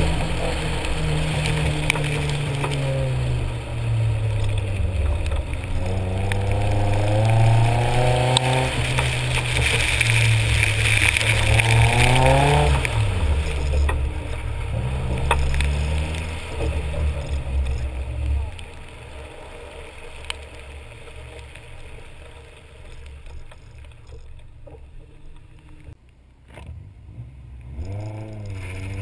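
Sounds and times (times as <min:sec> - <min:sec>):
wet tyres hissing: 0:00.0 - 0:26.0
car engine revving: 0:00.0 - 0:29.0.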